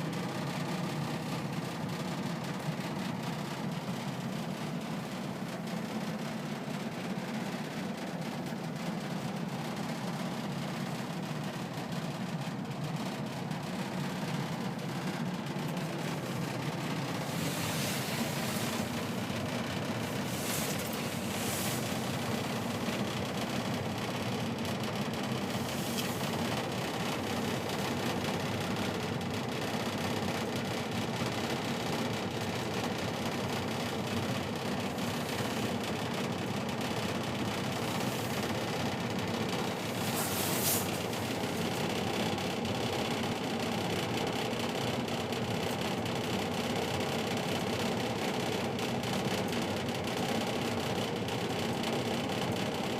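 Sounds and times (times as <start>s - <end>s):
furnace blower hum: 0.0s - 52.9s.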